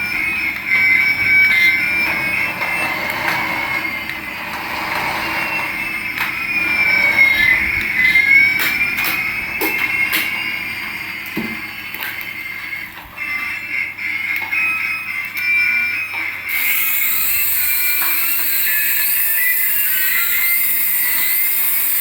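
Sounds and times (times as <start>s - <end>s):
electronic toy tones gliding: 0.0s - 10.8s, 12.5s - 22.0s.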